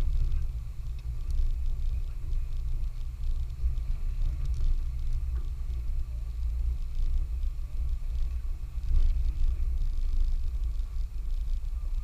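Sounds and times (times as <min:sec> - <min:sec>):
faint ticks and rattles: 0:00.0 - 0:12.0
off-road vehicle engine rumble: 0:00.0 - 0:12.0.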